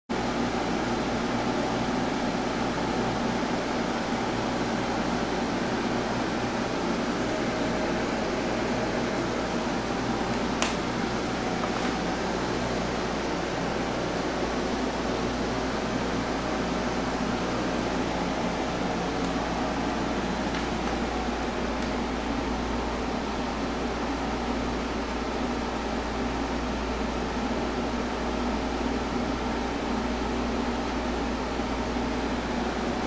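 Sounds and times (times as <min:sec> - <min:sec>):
fan hiss with low hum: 0:00.1 - 0:33.0.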